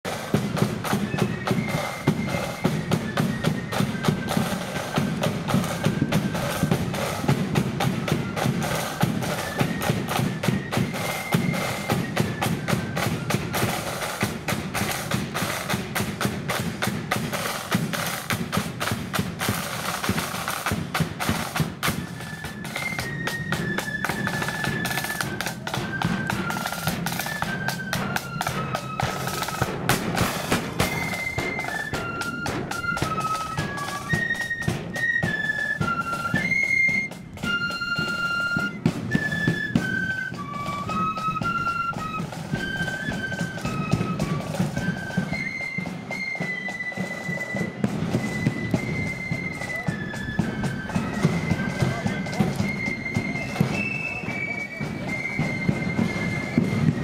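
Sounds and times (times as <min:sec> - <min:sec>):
side drums beating and rolling: 0:00.0 - 0:57.0
cymbals: 0:00.1 - 0:57.0
flute melody: 0:00.1 - 0:57.0.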